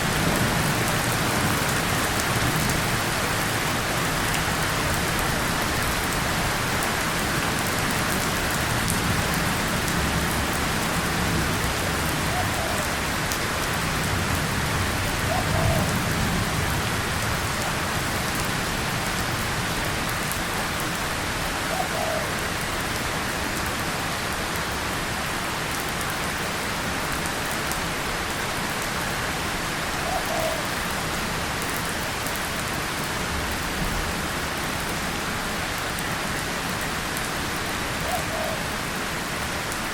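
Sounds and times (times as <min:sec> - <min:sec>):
rain on tin and leaves: 0:00.0 - 0:39.9.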